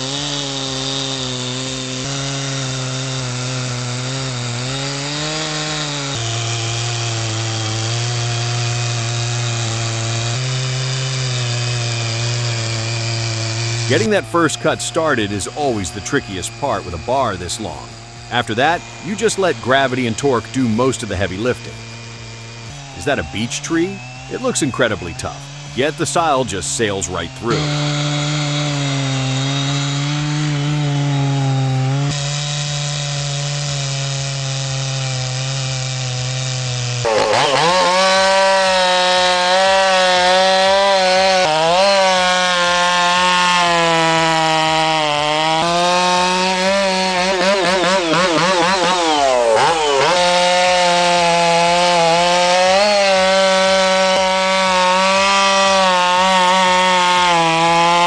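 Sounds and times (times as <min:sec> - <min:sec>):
chainsaw cutting hardwood: 0:00.0 - 0:58.0
higher-pitched saw cutting: 0:00.0 - 0:58.0.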